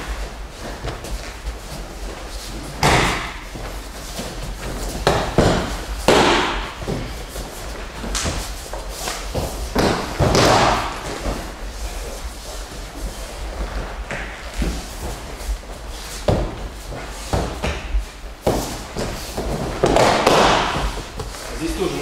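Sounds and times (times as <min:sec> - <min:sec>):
bodies thudding on mats: 0:00.0 - 0:11.7, 0:12.5 - 0:21.5.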